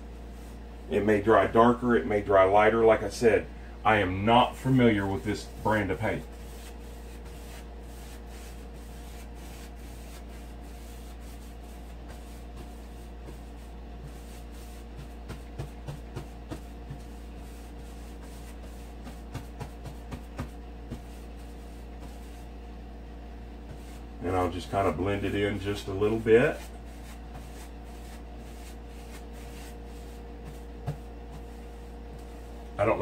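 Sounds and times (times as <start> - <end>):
steady low hum: 0.0 - 33.0
paintbrush dabbing on wall: 4.3 - 22.6, 23.5 - 33.0.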